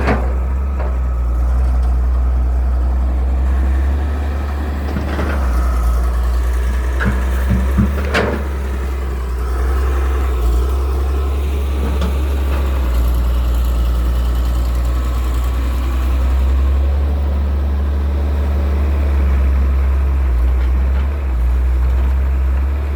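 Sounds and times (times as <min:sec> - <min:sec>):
excavator diesel engine humming: 0:00.0 - 0:22.9.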